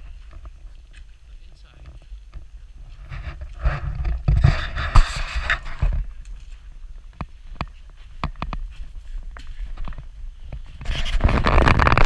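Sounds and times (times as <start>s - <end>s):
footsteps on gravel: 0.0s - 12.0s
wind rumble: 0.0s - 12.0s.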